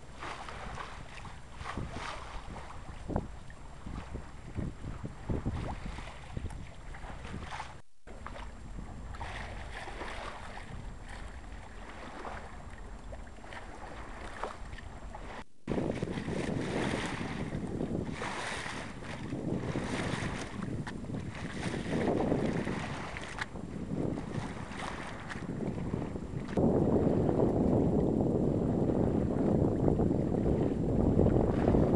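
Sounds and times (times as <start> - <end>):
water rushing along hull: 0.0 - 31.9
wind buffeting microphone: 0.0 - 31.9.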